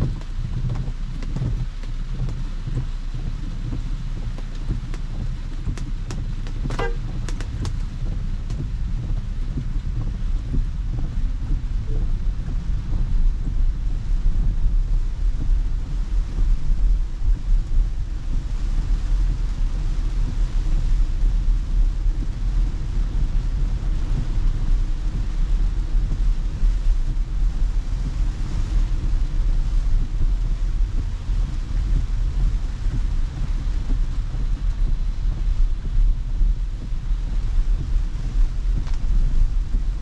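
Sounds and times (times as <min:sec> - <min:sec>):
rain hissing on glass: 0:00.0 - 0:40.0
tyres rumbling on wet road: 0:00.0 - 0:40.0.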